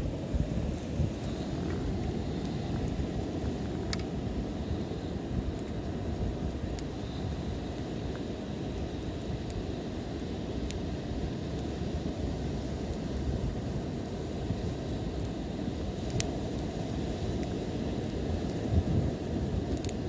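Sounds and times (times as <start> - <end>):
campfire burning: 0.0 - 20.0
faint fire crackles: 0.0 - 20.0.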